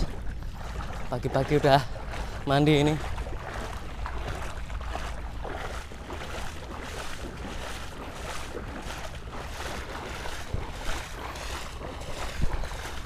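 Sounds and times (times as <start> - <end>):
legs wading through seawater: 0.0 - 13.0
wind rumble on microphone: 0.0 - 13.0.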